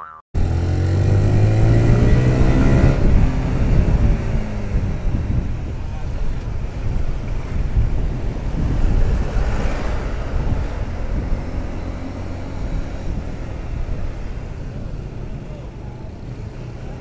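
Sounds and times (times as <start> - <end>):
motorcycle engine rumble: 0.0 - 17.0
wind rushing over microphone: 0.4 - 17.0.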